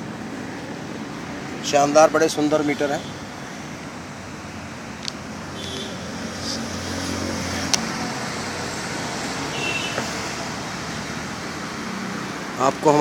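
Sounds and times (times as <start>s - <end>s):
traffic noise: 0.0s - 13.0s
vehicle engine hum: 0.0s - 13.0s.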